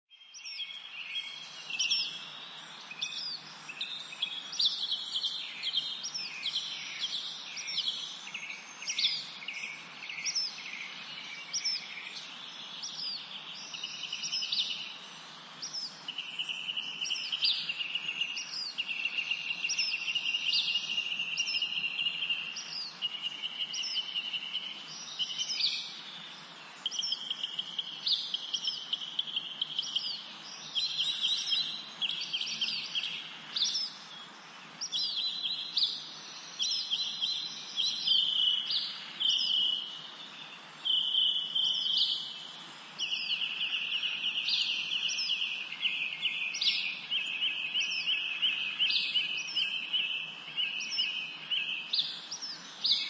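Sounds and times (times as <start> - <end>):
birds chirping and trilling: 0.1 - 53.0.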